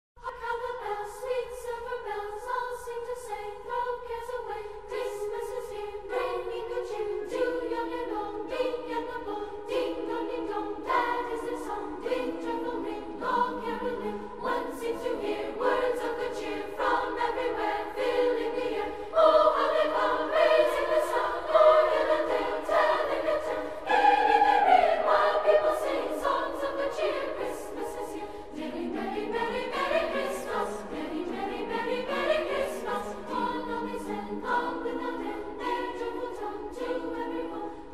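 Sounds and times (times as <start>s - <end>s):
choral singing: 0.2s - 37.9s.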